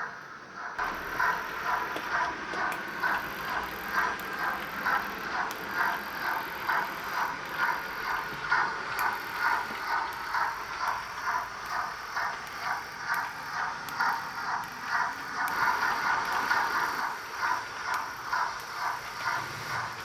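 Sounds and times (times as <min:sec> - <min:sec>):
steam locomotive exhaust chuffs: 0:00.0 - 0:20.0.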